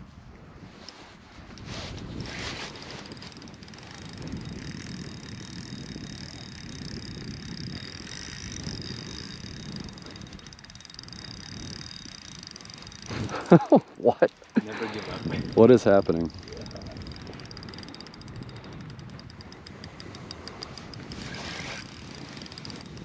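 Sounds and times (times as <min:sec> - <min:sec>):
fishing reel ticking: 0:00.8 - 0:23.0.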